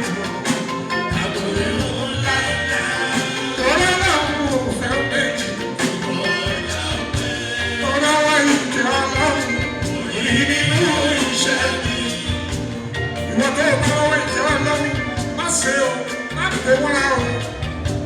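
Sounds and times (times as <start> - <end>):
person singing: 0.0 - 17.8
band with drums and percussion: 0.0 - 18.0.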